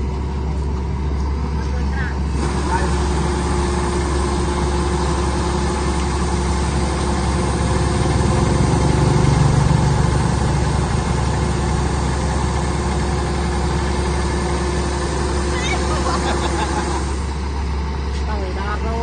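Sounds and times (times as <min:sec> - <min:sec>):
harvester engine running: 0:00.0 - 0:19.0.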